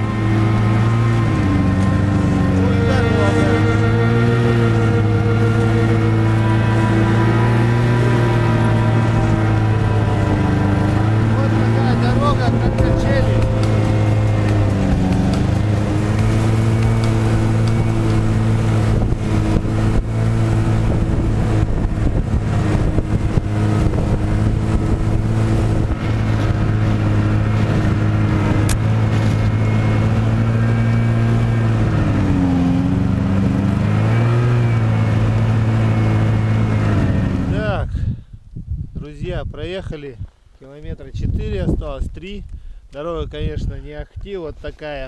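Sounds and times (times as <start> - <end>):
snowmobile engine running: 0.0 - 37.8.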